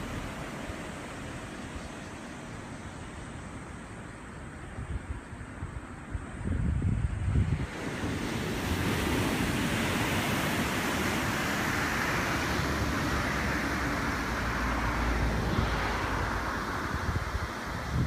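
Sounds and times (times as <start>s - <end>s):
small surf washing up beach: 0.0s - 4.8s, 7.2s - 18.0s.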